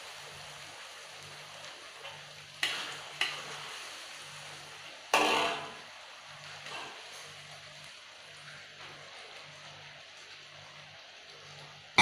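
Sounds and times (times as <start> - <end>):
fish sizzling in a wok: 0.0 - 12.0.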